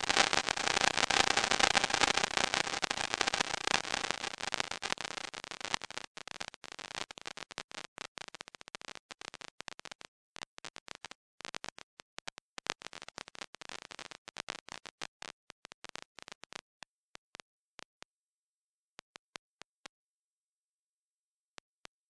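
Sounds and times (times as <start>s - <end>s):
faint irregular crackling clicks: 0.0s - 18.1s, 18.9s - 19.9s.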